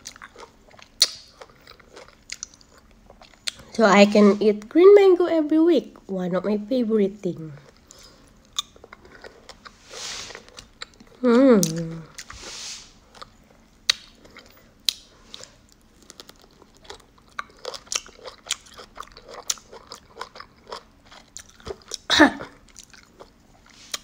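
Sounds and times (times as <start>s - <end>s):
crunchy chewing: 0.0s - 3.7s, 7.6s - 12.4s, 13.0s - 24.0s.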